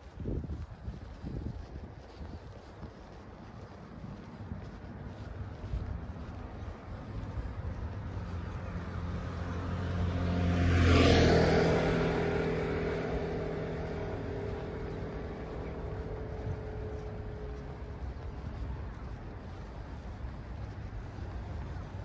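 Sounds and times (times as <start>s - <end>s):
vehicle passing by: 0.0s - 22.0s.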